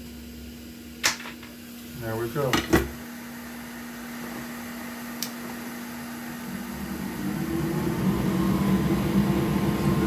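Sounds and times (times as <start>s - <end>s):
hot air station airflow hiss: 1.6s - 10.0s.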